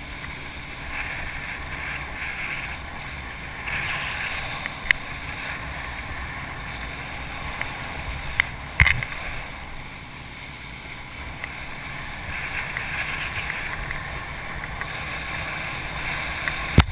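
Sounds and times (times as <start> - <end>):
wind on camera: 0.0 - 9.9, 11.2 - 16.9
water rushing: 0.0 - 16.9.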